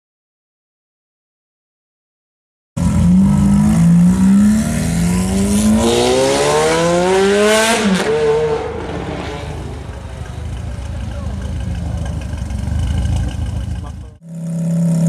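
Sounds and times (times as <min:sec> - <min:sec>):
sports car engine accelerating: 0:02.8 - 0:15.0.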